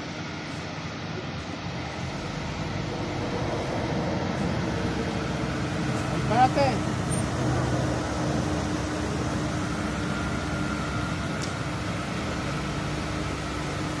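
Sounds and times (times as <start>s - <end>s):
pickup engine idling: 0.0s - 14.0s.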